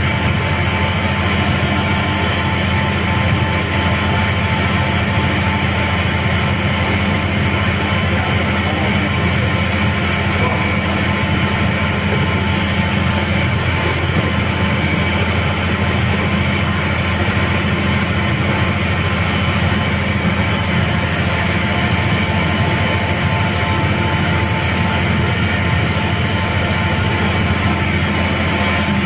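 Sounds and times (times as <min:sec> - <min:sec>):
machinery humming: 0:00.0 - 0:29.0.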